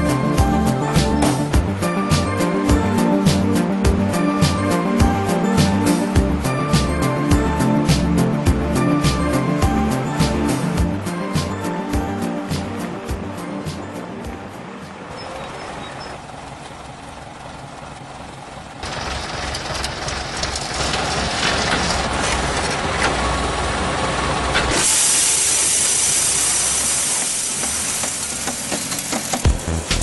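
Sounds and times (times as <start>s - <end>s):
tractor running: 0.0s - 30.0s.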